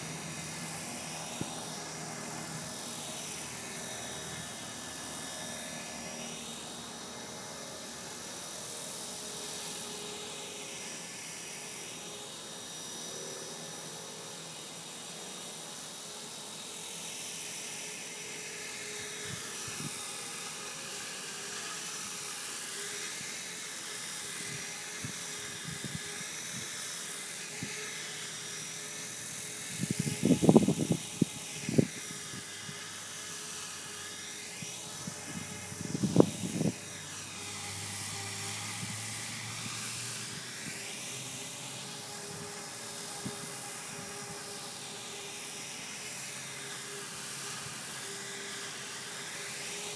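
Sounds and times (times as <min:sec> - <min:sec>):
rc helicopter whining: 0:00.0 - 0:49.9.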